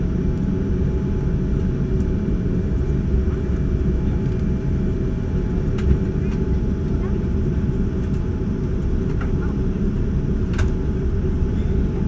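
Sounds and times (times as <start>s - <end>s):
aircraft engines low rumble: 0.0s - 12.0s.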